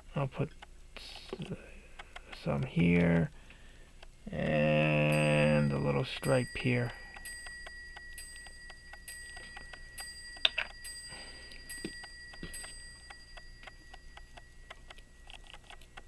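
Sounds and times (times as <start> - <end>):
pocket watch ticking: 0.1 - 16.0.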